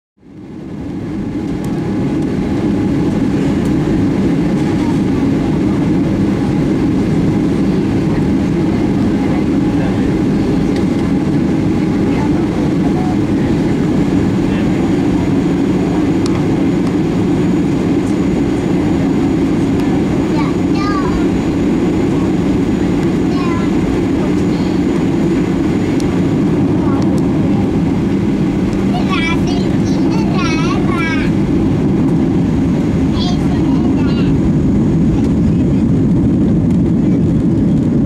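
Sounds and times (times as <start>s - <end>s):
airplane cabin engine rumble: 0.2s - 38.0s.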